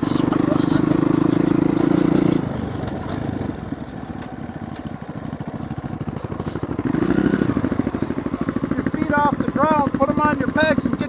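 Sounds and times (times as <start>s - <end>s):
dirt bike engine revving: 0.0s - 3.8s, 5.4s - 11.0s.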